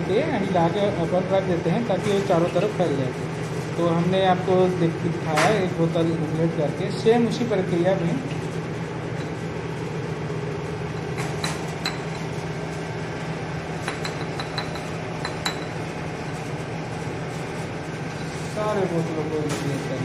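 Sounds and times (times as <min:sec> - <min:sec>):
blower fan hum: 0:00.0 - 0:20.0.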